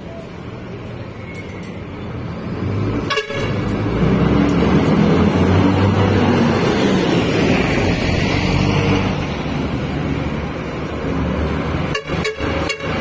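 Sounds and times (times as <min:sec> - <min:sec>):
diesel coach engine pulling away: 0:00.0 - 0:13.0.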